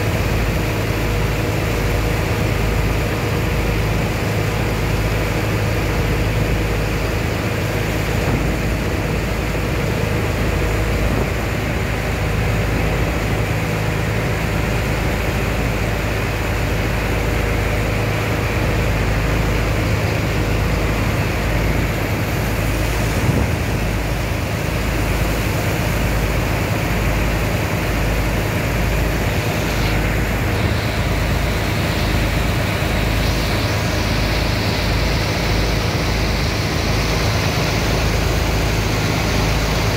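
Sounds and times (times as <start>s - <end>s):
engine and pump drone: 0.0s - 39.9s
slurry gushing and splashing: 0.0s - 39.9s.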